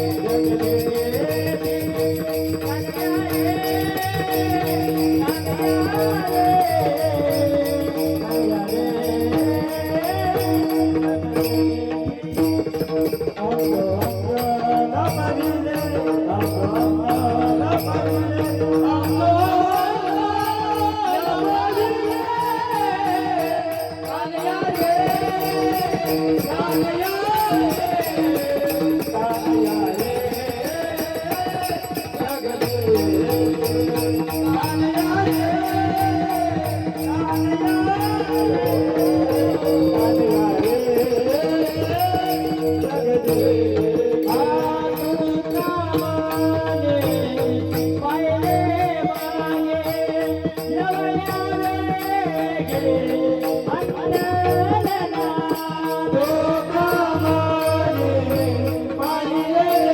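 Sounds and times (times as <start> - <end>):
man singing folk song: 0.0 - 59.9.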